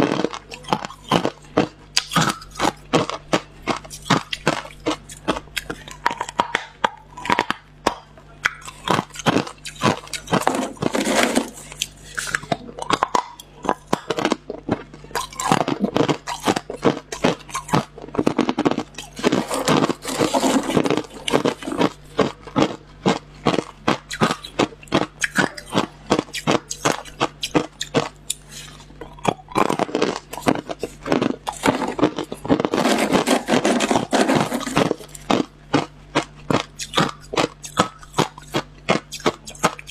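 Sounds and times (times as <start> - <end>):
faint steady hum: 0.0 - 39.9
ice crunching between teeth: 0.0 - 39.9.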